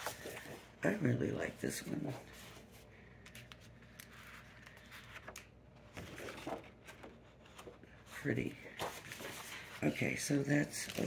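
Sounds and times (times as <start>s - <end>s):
paper pages rustling: 0.0s - 0.8s, 2.1s - 11.0s.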